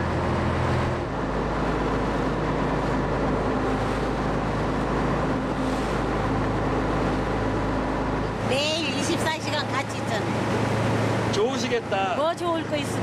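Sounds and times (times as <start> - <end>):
boat engine droning: 0.0 - 13.0
wind and water hissing: 0.0 - 13.0.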